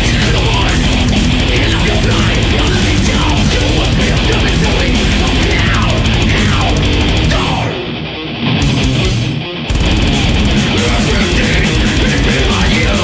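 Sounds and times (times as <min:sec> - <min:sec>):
death metal band playing: 0:00.0 - 0:13.0.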